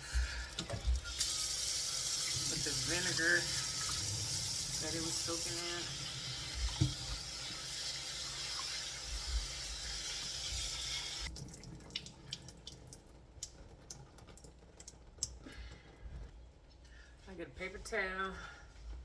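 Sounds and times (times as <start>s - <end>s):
faucet water running: 0.0s - 16.3s.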